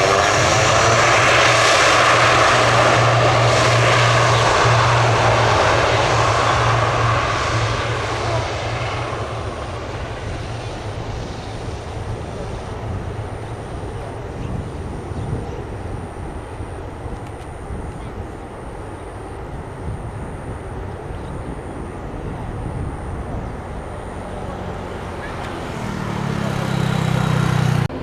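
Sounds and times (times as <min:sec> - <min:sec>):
turboprop airliner departing: 0:00.0 - 0:28.0.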